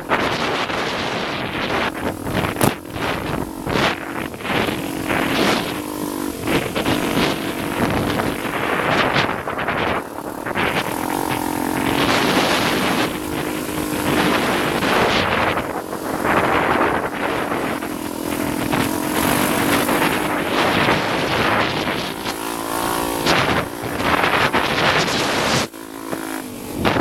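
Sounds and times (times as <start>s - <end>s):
motorcycle engine revving: 0.0s - 27.0s
wind buffeting microphone: 0.0s - 27.0s.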